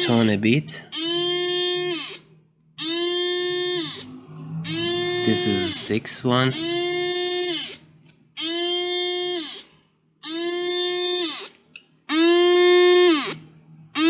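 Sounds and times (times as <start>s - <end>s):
buzzy alarm beeps: 0.9s - 7.8s, 8.4s - 11.4s, 12.1s - 14.0s.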